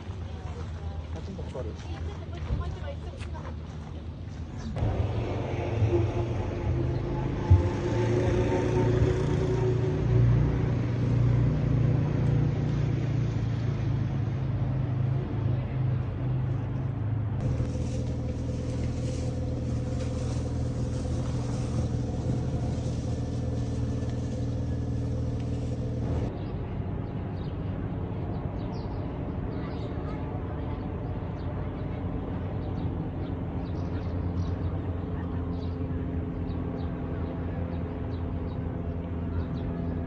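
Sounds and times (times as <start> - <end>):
low engine rumble: 0.0 - 40.0.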